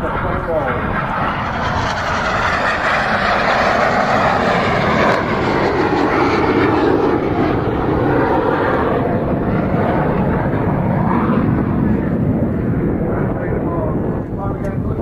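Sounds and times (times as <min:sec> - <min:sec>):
jet engines passing low: 0:00.0 - 0:15.0.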